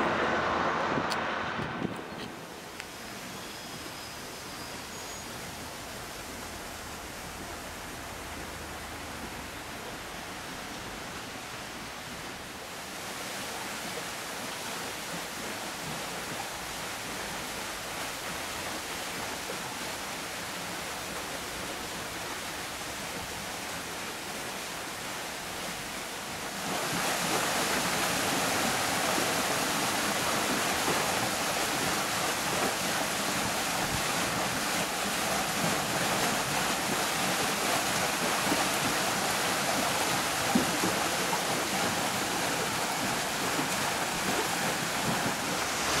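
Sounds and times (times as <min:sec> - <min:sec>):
water churning from waterwheel: 0:00.0 - 0:46.0.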